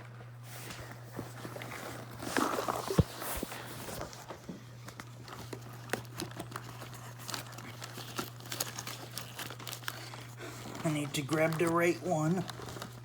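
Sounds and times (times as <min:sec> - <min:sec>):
rustling and clicks of handling: 0:00.0 - 0:13.0.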